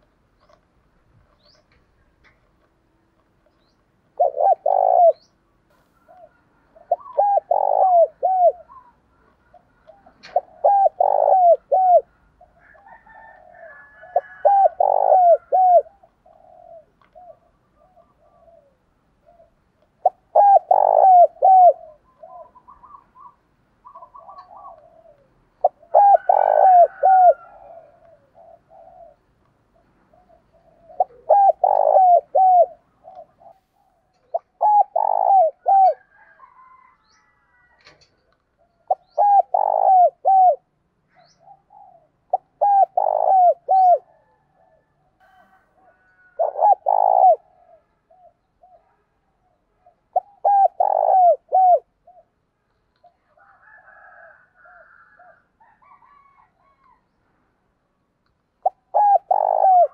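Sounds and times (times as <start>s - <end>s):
dove cooing: 3.6s - 52.4s, 58.6s - 59.9s.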